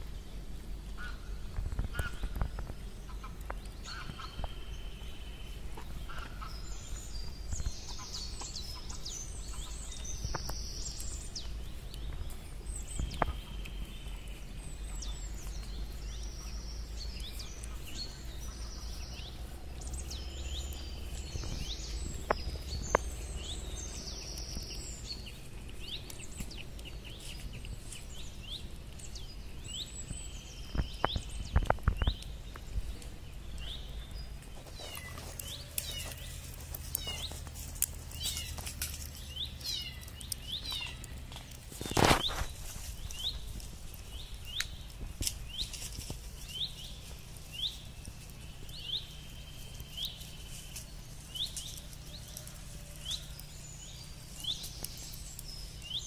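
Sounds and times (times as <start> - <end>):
birds chirping and singing: 0.0 - 56.0
campfire crackling and popping: 0.0 - 56.0
low steady rumble: 0.0 - 56.0.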